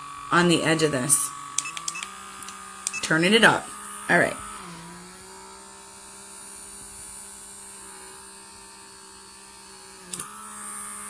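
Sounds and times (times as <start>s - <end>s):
small suction pump humming: 0.0s - 11.0s.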